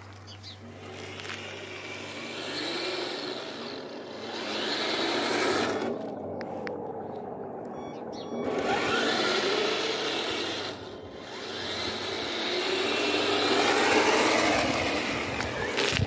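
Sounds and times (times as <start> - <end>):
electric motors whining: 0.4 - 16.0.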